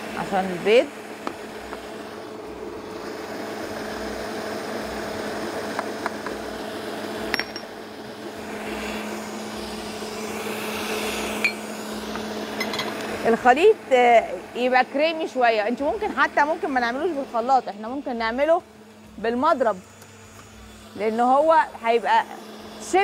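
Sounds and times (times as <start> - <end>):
electric stand mixer running: 0.0 - 23.0.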